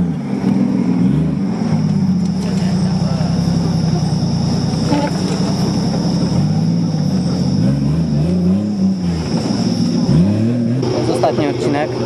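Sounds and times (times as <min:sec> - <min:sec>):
off-road car engine revving: 0:00.0 - 0:12.0.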